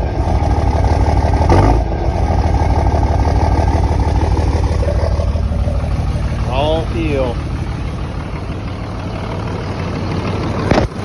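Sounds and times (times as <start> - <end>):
rough diesel exhaust idling: 0.0 - 11.0.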